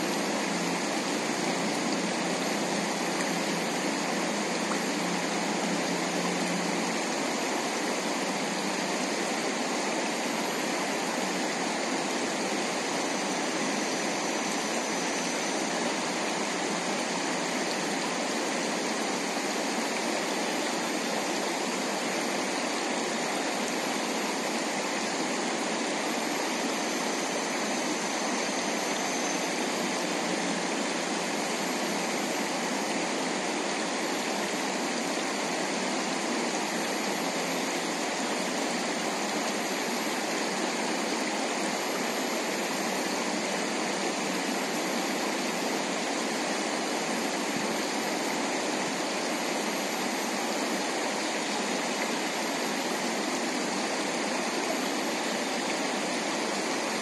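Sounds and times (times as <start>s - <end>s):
water rushing over stones: 0.0s - 57.0s.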